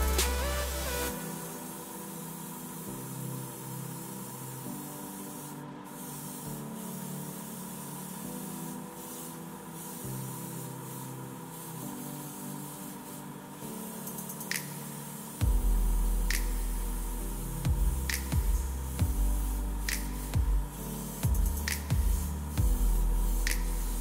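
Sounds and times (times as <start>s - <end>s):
airbrush spraying hiss: 0.0s - 24.0s
soft background music: 0.0s - 24.0s.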